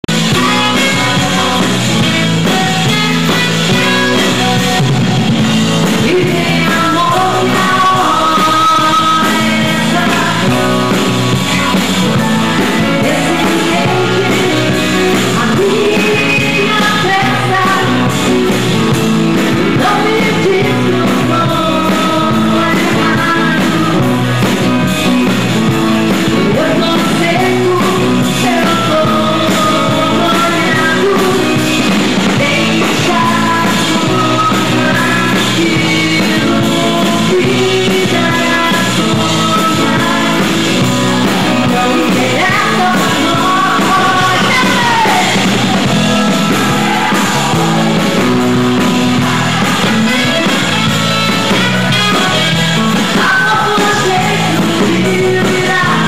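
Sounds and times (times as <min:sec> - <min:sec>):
live pop-rock band: 0:00.0 - 0:56.0
woman singing into microphone: 0:00.3 - 0:24.9, 0:25.6 - 0:50.8, 0:51.5 - 0:56.0.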